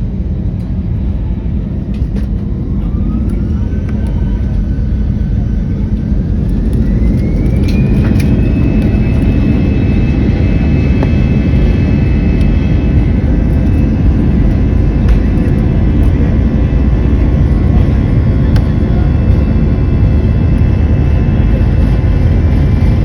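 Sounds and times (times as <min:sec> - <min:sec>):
jet engines spooling up: 0:00.2 - 0:23.0.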